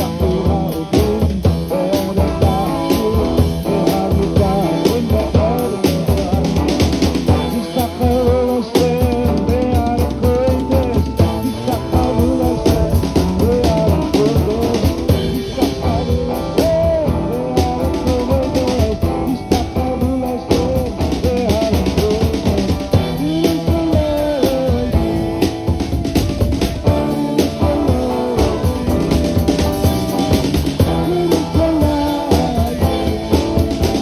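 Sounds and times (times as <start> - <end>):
drum kit: 0.0 - 34.0
electric guitar: 0.0 - 34.0
rock band playing: 0.0 - 34.0.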